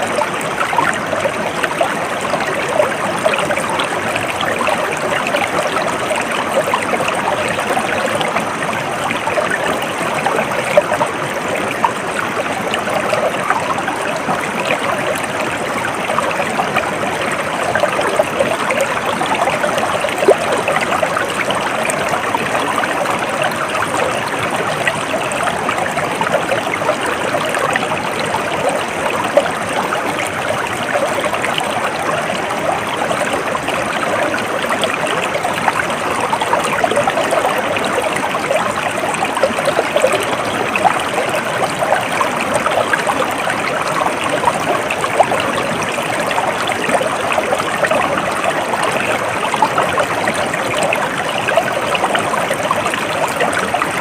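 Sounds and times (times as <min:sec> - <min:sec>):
small stream trickling: 0:00.0 - 0:54.0.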